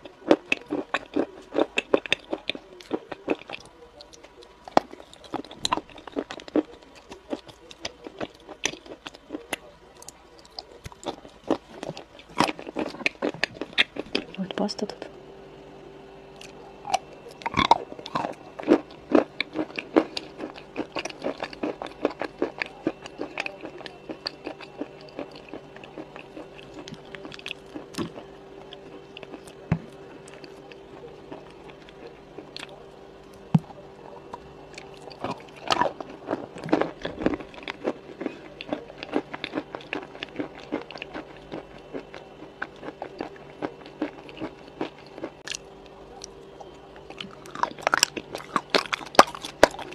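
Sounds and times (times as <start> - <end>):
crunchy chewing of food: 0.0 - 15.1, 16.3 - 49.9
faint steady hum: 0.0 - 49.9.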